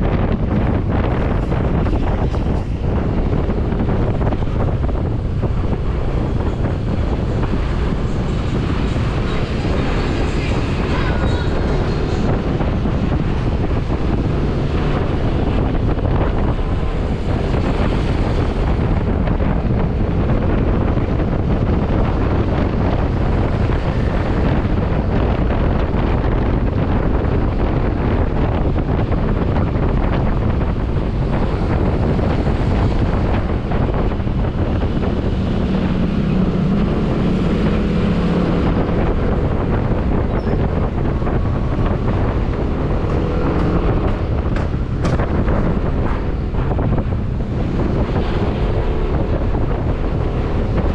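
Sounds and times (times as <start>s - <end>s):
motorcycle engine: 0.0s - 50.9s
wind buffeting microphone: 0.0s - 50.9s.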